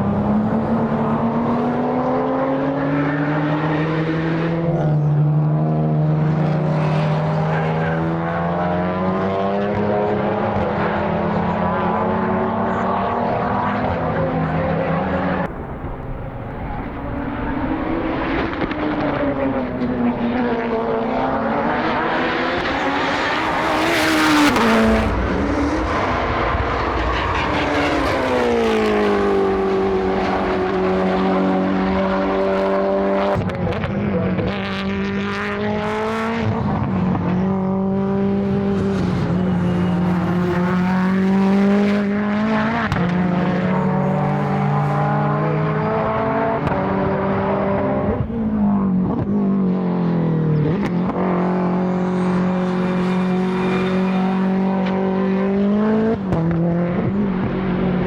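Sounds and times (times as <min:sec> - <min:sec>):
race car engines revving: 0:00.0 - 0:58.0
race car passing close: 0:00.0 - 0:58.0.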